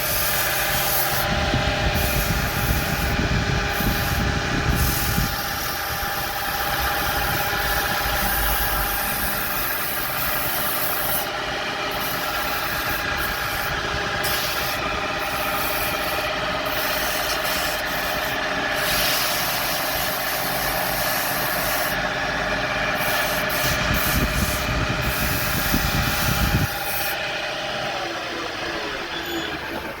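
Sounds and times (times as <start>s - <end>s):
sanding hiss on spinning wood: 0.0s - 30.0s
wood lathe motor whine: 0.0s - 30.0s.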